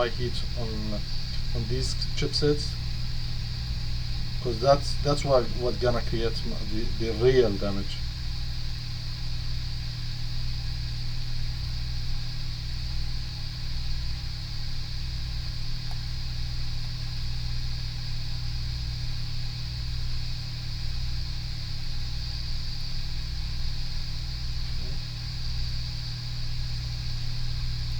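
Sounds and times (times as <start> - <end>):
hot-air blower whirring: 0.0 - 27.9
low electrical hum: 0.0 - 27.9.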